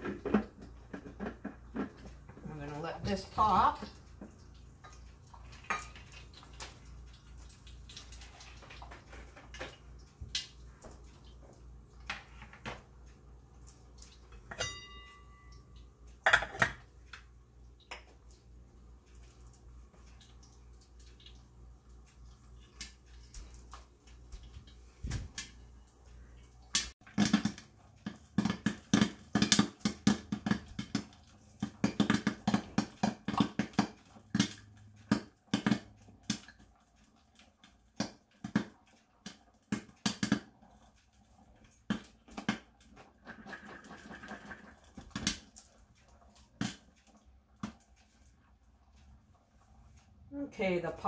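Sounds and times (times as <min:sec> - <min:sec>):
popcorn popping: 0:00.0 - 0:21.7, 0:26.7 - 0:48.2.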